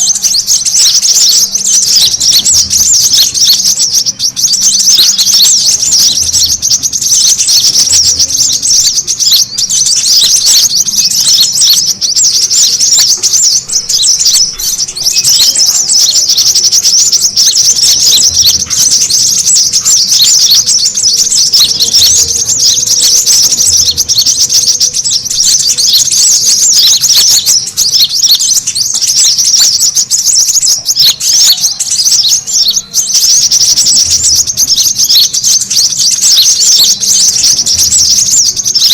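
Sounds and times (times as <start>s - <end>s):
sunbirds chirping and twittering: 0.0s - 38.9s.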